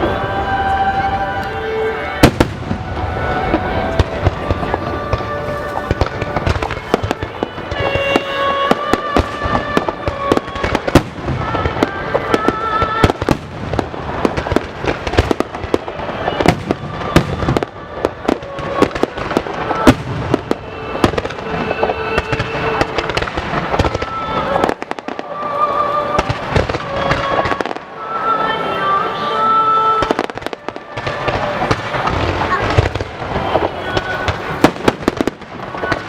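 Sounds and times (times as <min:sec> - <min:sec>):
fireworks bangs and crackles: 0:00.0 - 0:36.0
music: 0:00.0 - 0:36.0.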